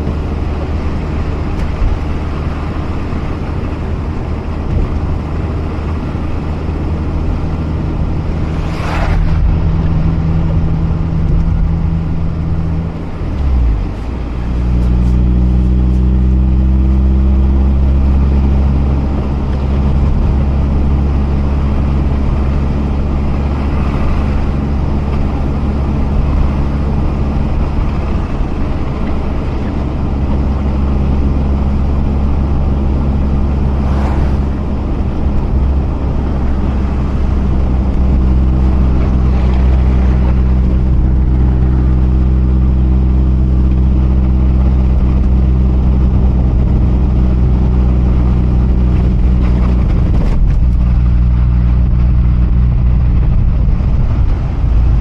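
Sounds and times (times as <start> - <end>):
car engine cruising: 0.0 - 55.0
road noise: 0.0 - 55.0.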